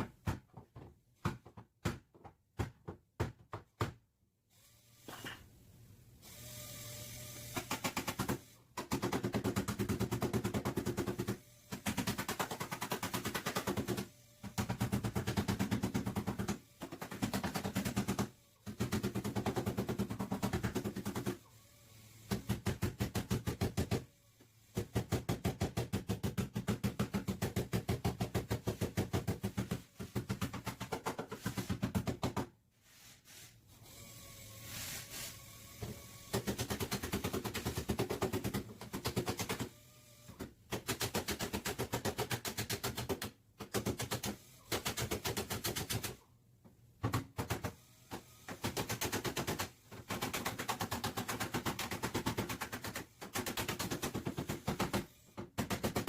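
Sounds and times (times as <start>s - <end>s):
pneumatic tool hammering: 4.9s - 5.5s, 6.3s - 32.4s, 34.0s - 46.2s, 47.0s - 56.0s.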